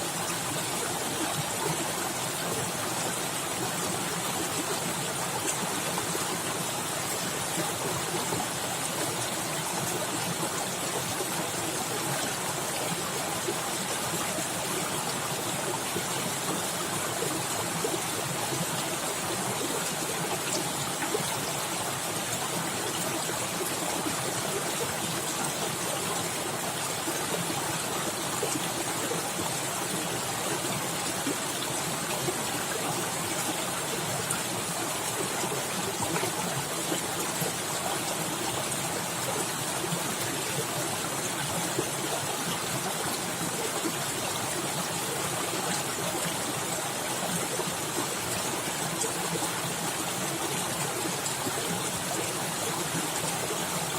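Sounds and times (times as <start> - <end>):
stream splashing over rocks: 0.0 - 53.9.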